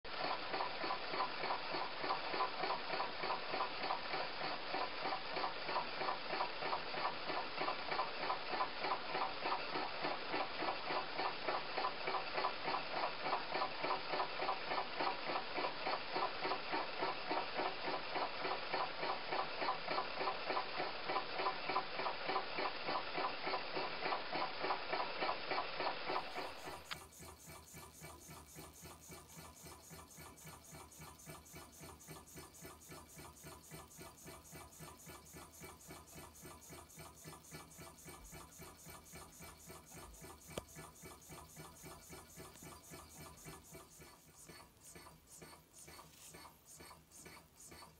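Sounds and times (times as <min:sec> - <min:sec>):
hot-air engine rhythmic ticking: 0:00.1 - 0:47.9.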